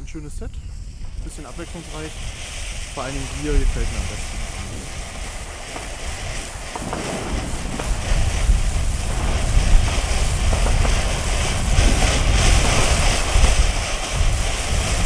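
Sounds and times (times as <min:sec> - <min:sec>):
faint crackles: 0:00.0 - 0:15.0
firework fountain hissing: 0:00.0 - 0:15.0
low rumble: 0:00.0 - 0:15.0.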